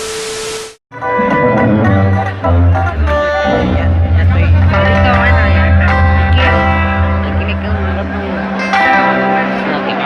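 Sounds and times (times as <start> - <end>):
live band music with heavy bass: 0.9 - 10.0.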